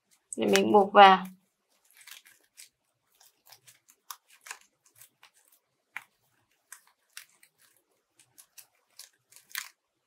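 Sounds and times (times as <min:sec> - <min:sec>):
foam netting crinkling: 0:00.0 - 0:09.8.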